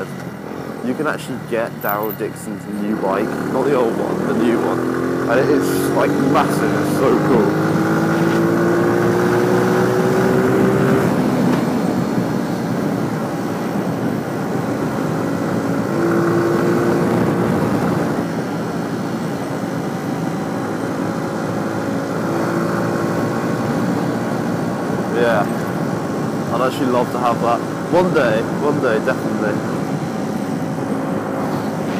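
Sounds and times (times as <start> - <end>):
motorcycle engine running: 2.9 - 31.9.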